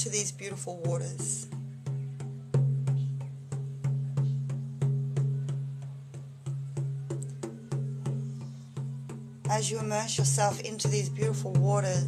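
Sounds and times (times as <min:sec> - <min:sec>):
frame drum struck by hand: 0:00.0 - 0:12.0.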